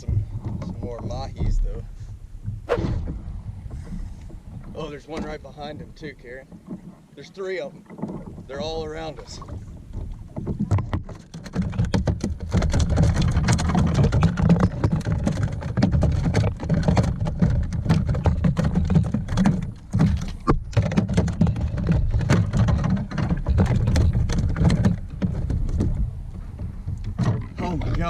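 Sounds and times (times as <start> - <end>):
wind rumbling on microphone: 0.0 - 28.0
crackling and clicking: 2.4 - 28.0.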